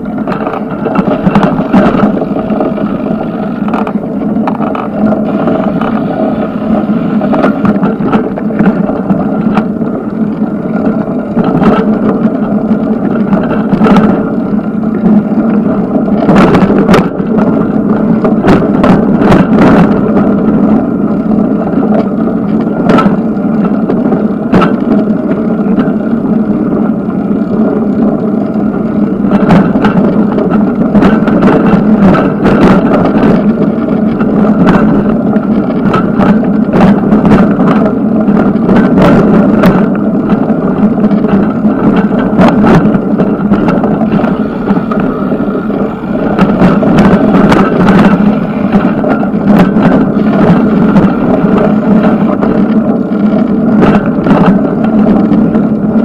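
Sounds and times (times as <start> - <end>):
bicycle rattling over bumps: 0.0 - 56.0
bicycle rolling rumble: 0.0 - 56.0.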